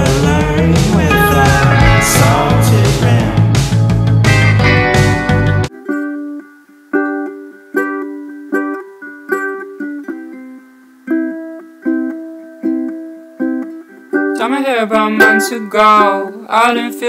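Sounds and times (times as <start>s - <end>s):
plucked string instrument chords: 0.0s - 17.0s.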